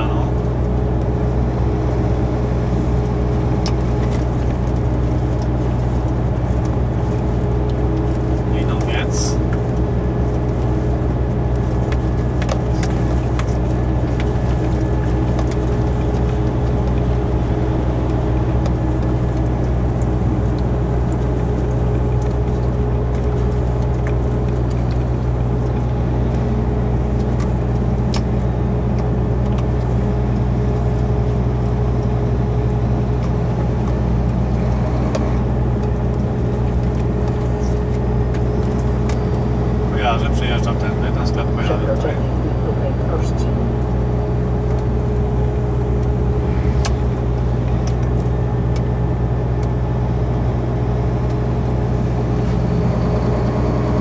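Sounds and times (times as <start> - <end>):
cab clicks and rattles: 0.0 - 52.6
truck diesel engine droning: 0.0 - 54.0
tyre and road noise: 0.0 - 54.0.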